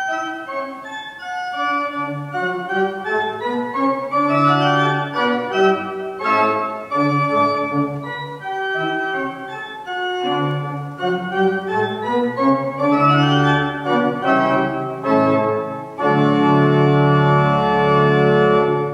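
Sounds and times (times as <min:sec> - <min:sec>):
church organ playing: 0:00.0 - 0:18.9.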